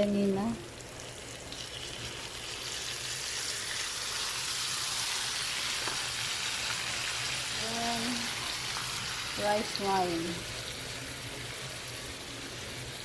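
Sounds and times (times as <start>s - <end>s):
fish fillets sizzling in oil: 0.0s - 13.0s.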